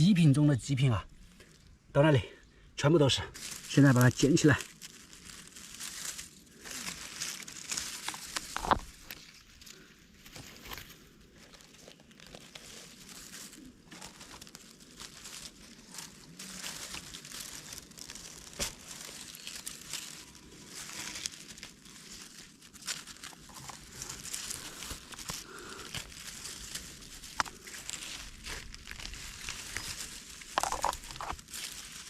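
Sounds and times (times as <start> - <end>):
leaf litter and twigs rustling: 0.0 - 32.0
twigs snapping: 3.3 - 32.0.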